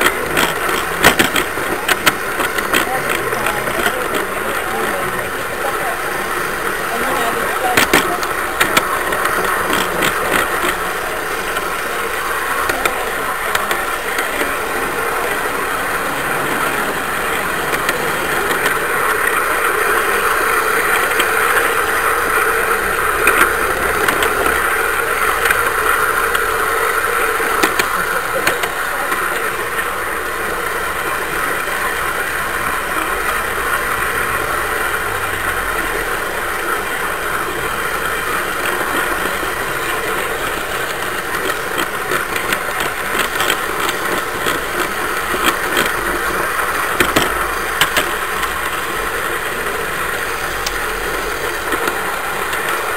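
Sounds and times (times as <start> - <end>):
model train running on track: 0.0 - 52.9
sharp track clicks: 0.0 - 52.9.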